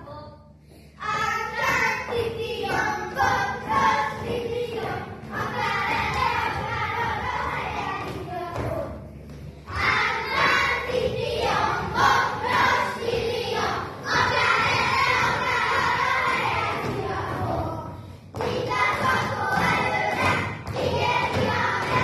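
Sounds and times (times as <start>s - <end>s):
children singing: 1.0s - 9.1s, 9.7s - 22.0s
footsteps on wooden stage: 1.0s - 22.0s.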